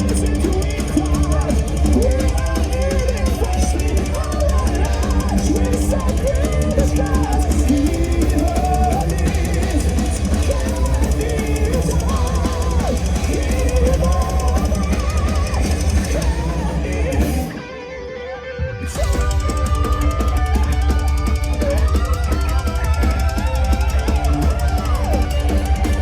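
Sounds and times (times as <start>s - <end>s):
pounding drum kit: 0.0s - 17.8s, 18.9s - 26.0s
distorted electric guitars: 0.0s - 26.0s
person singing: 0.0s - 26.0s.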